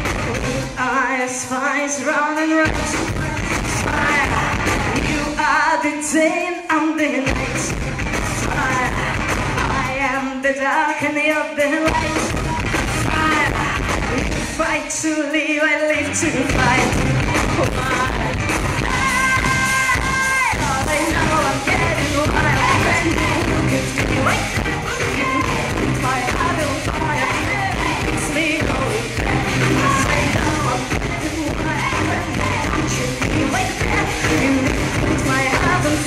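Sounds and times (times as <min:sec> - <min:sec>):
live pop-rock band: 0:00.0 - 0:36.0
woman singing: 0:00.0 - 0:36.0.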